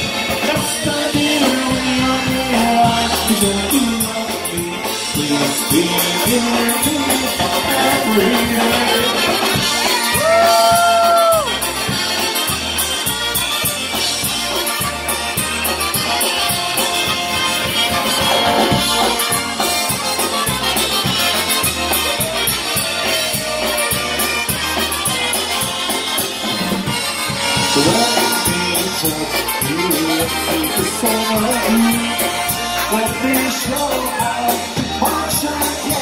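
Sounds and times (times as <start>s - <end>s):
polka band playing: 0.0s - 36.0s.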